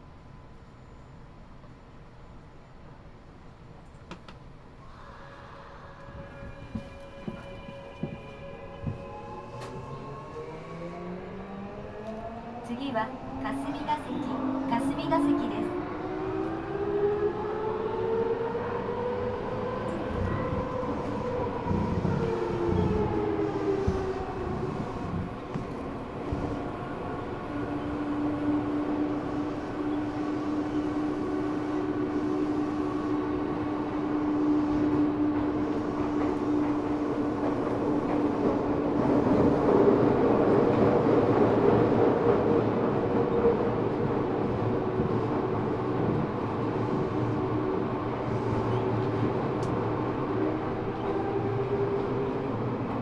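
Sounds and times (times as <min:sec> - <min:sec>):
subway train inverter whine: 0:00.0 - 0:53.0.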